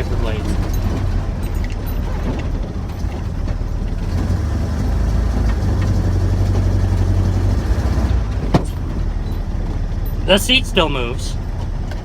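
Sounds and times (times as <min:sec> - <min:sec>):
pickup engine low rumble: 0:00.0 - 0:12.0.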